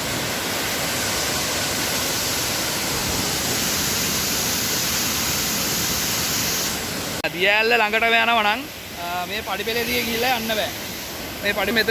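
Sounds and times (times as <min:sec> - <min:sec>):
waterfall roaring: 0:00.0 - 0:11.9.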